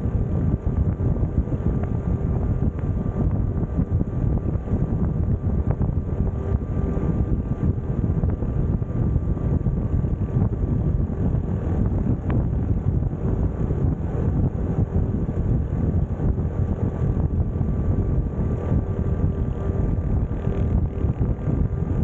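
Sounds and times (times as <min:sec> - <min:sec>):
motorcycle engine cruising: 0:00.0 - 0:22.0
wind buffeting microphone: 0:00.0 - 0:22.0.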